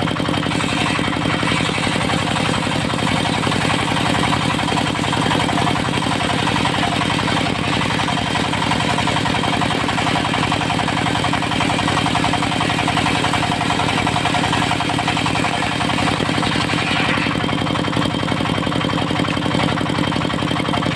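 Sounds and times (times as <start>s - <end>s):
sawmill engine running: 0.0s - 20.9s.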